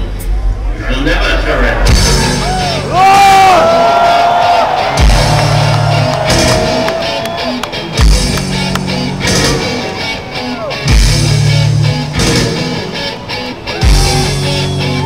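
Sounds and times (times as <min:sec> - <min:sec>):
crowd noise: 0:00.0 - 0:15.0
heavy metal band playing live: 0:01.7 - 0:15.0.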